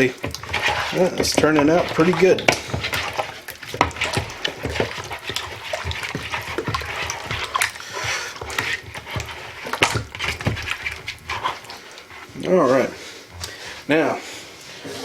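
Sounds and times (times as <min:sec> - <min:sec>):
wet marinade squishing: 0:00.0 - 0:14.2.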